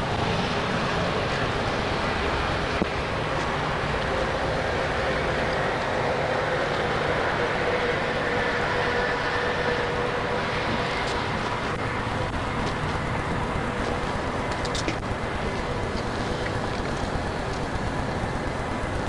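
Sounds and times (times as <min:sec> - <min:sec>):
faint constant hum: 0:00.0 - 0:19.0
rushing vehicle noise: 0:00.0 - 0:19.0.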